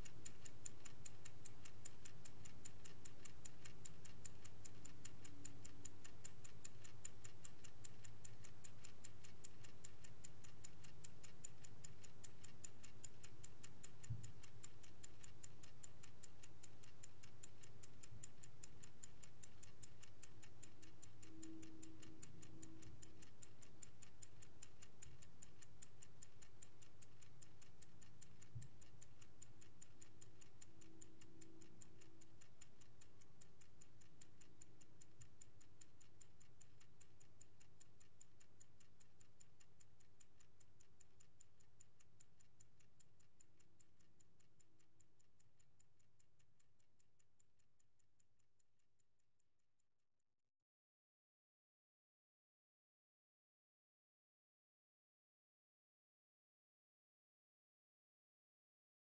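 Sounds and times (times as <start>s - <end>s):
clock ticking: 0.0s - 49.6s.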